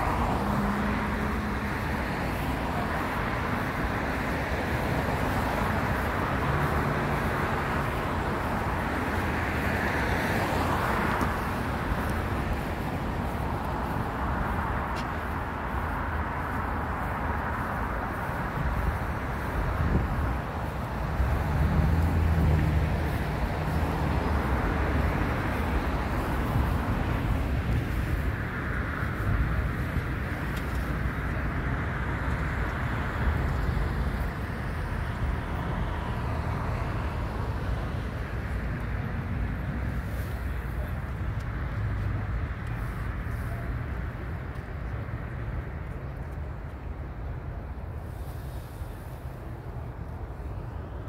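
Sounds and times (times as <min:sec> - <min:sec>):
low engine hum: 0:00.0 - 0:49.2
cars driving past: 0:00.0 - 0:51.0
tyre and road noise: 0:00.0 - 0:51.0.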